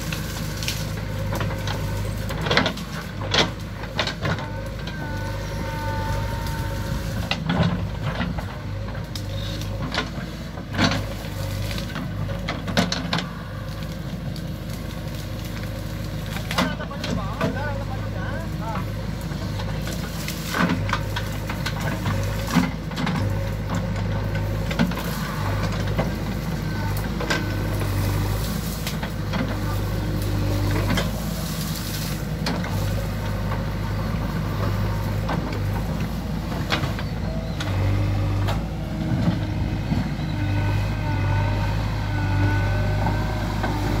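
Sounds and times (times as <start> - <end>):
brush cracking and knocking: 0.0 - 5.5, 6.1 - 40.1
diesel engine under load: 0.0 - 44.0.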